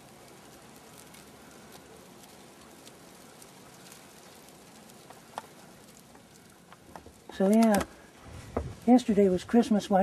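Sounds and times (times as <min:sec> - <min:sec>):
light ticks of snowflakes: 0:00.0 - 0:08.1
hiss of snow falling: 0:00.0 - 0:10.0.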